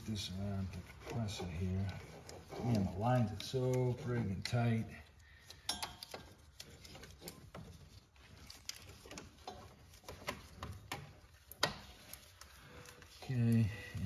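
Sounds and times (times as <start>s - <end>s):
rubber belt clicking and rubbing: 0.0s - 14.0s.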